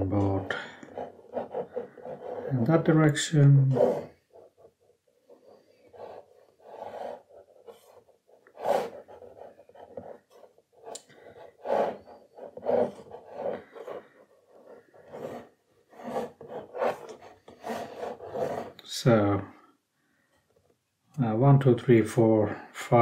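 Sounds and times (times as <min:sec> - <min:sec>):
pencil scratching on paper: 0:00.0 - 0:18.8.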